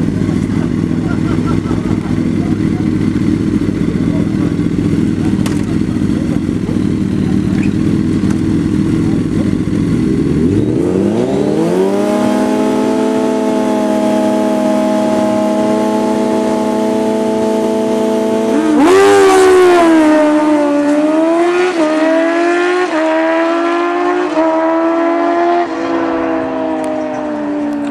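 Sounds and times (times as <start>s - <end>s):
motorcycle engines revving: 0.0s - 27.9s
motorcycles accelerating: 0.0s - 27.9s.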